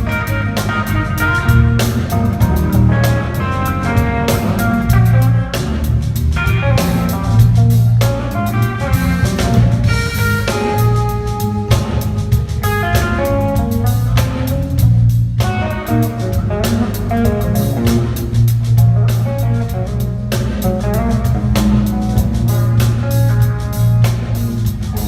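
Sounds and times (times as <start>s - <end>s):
bass: 0.0s - 25.0s
drum kit: 0.0s - 25.0s
guitar lead line: 0.0s - 25.0s.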